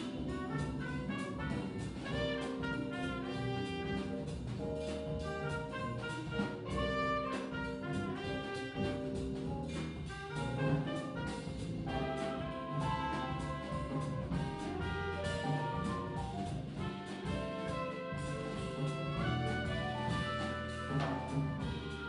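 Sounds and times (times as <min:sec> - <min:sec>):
drums: 0:00.0 - 0:22.0
electric piano: 0:00.0 - 0:22.0
saxophone: 0:00.0 - 0:22.0
trumpet: 0:00.0 - 0:22.0
upright bass: 0:00.0 - 0:22.0.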